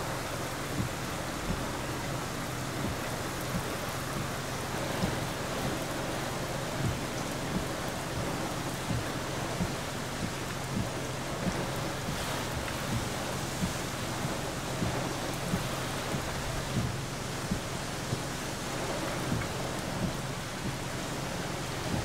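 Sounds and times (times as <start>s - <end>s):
steady rain: 0.0s - 22.0s
wind: 0.0s - 22.0s.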